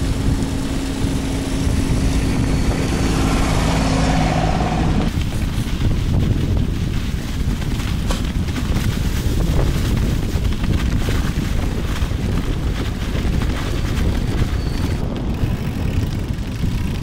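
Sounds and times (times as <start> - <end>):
tyres rolling over snow and ice: 0.0 - 17.0
wind buffeting microphone: 0.0 - 17.0.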